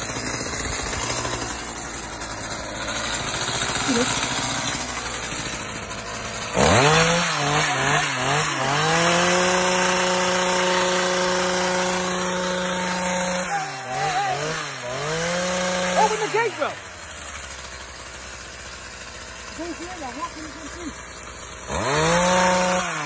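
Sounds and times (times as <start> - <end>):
small petrol engine revving: 0.0 - 23.0.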